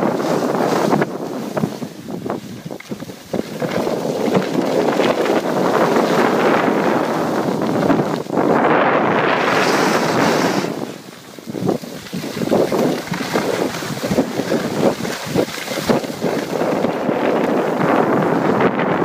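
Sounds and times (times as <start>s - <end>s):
skis scraping on packed snow: 0.0s - 18.7s
wind buffeting microphone: 0.0s - 19.0s.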